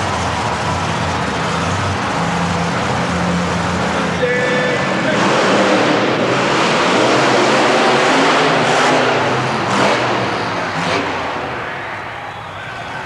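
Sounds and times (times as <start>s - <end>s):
monster truck engines running: 0.0s - 13.0s.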